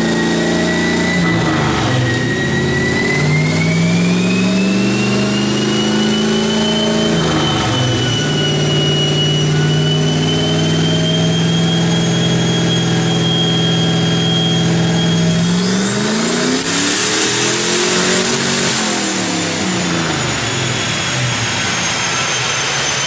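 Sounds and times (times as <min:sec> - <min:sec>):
turbocharged engine revving with whine: 0:00.0 - 0:23.0.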